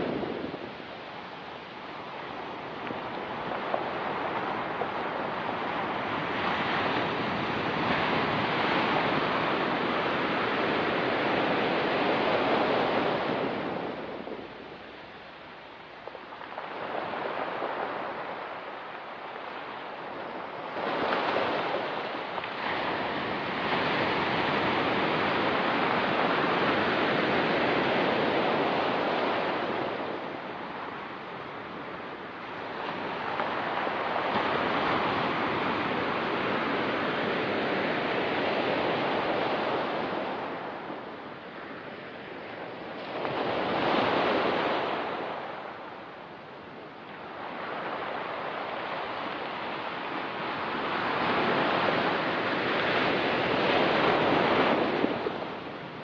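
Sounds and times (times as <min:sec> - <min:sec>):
ocean surf on rocky beach: 0:00.0 - 0:56.0.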